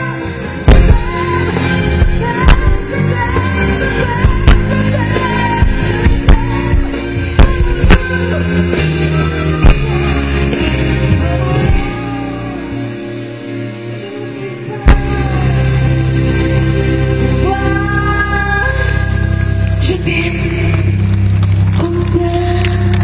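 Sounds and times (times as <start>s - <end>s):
woman singing: 0.0s - 13.0s, 13.6s - 16.4s, 17.3s - 21.1s, 21.7s - 23.0s
live pop band music: 0.0s - 23.0s.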